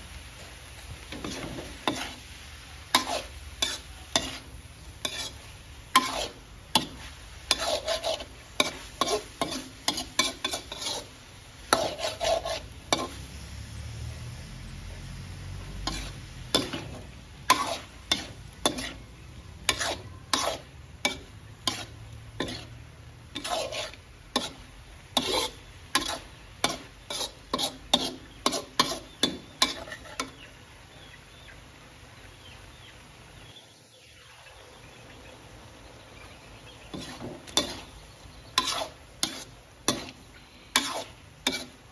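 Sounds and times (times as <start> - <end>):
food sizzling in wok: 0.0 - 41.9
metal spatula scraping wok: 0.4 - 30.5, 36.8 - 41.9.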